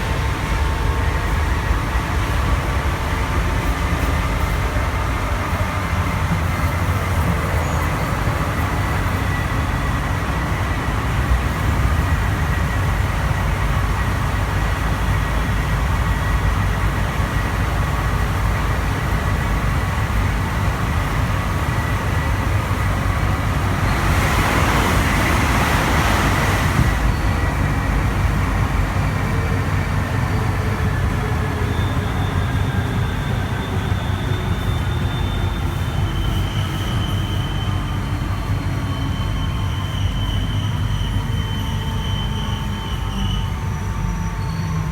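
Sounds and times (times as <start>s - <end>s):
train interior rumble: 0.0s - 44.9s.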